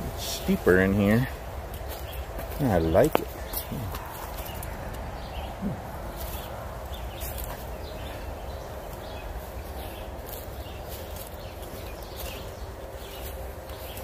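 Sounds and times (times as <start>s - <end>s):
footsteps crunching on dry leaves: 0.0s - 14.0s.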